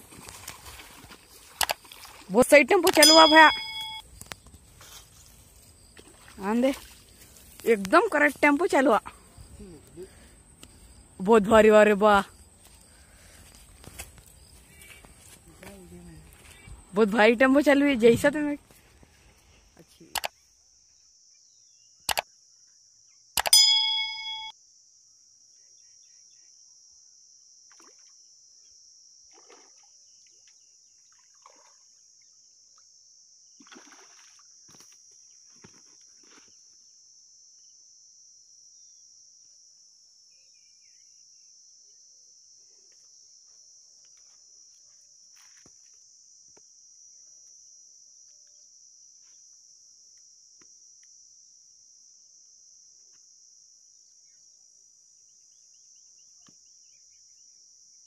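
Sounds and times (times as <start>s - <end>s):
faint insect chorus: 0.0s - 58.0s.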